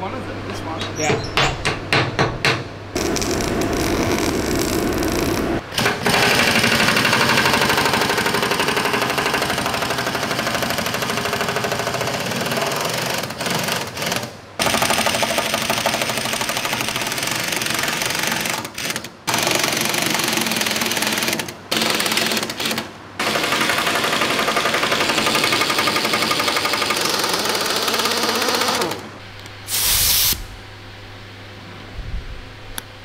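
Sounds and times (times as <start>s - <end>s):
pneumatic impact wrench hammering: 1.1s - 29.1s.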